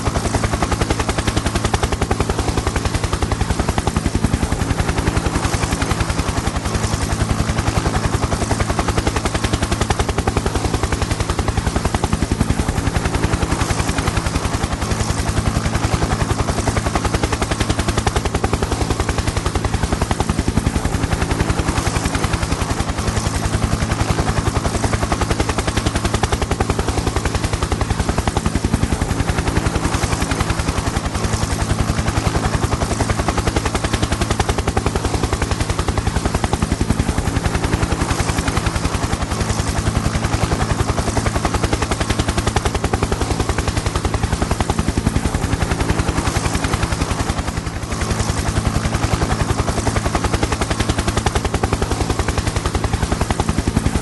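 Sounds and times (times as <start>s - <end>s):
helicopter rotor chop: 0.0s - 54.0s.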